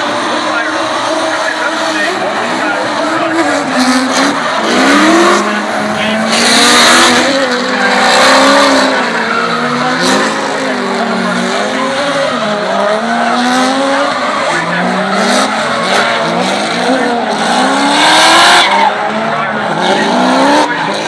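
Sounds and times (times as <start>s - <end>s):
car engines revving: 0.0s - 21.0s
tyres squealing: 0.3s - 21.0s.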